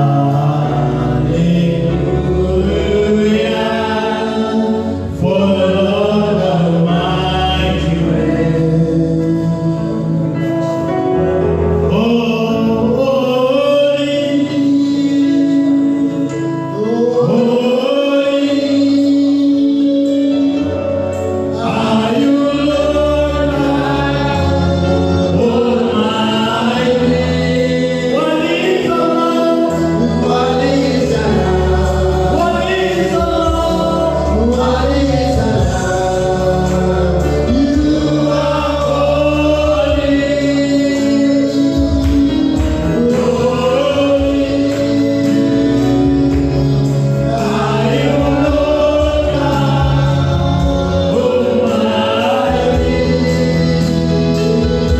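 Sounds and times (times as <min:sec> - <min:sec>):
gospel choir singing: 0:00.0 - 0:54.9
instrumental backing with bass line: 0:00.0 - 0:54.9.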